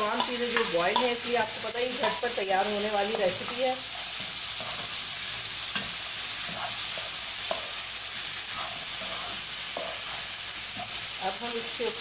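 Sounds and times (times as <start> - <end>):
spatula scraping a pan: 0.0 - 11.2
food sizzling in oil: 0.0 - 12.0.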